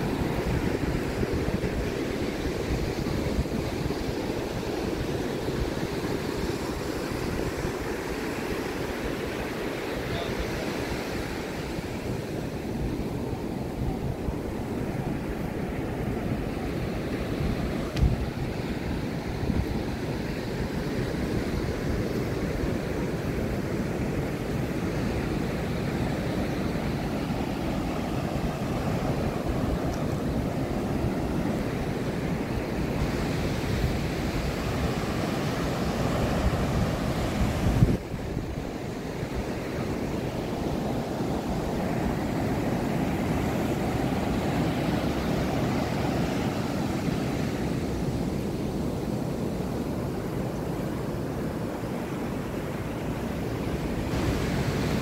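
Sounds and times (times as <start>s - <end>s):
waves breaking on beach: 0.0s - 55.0s
wind buffeting microphone: 0.0s - 55.0s.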